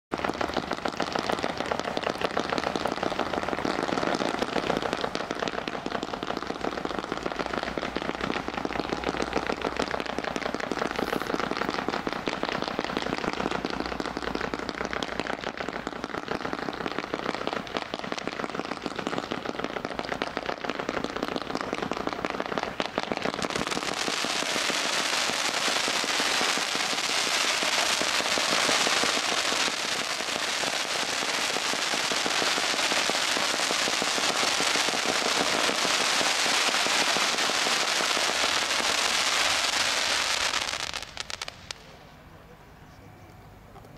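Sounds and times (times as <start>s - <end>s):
firework comets crackling: 0.1s - 42.5s.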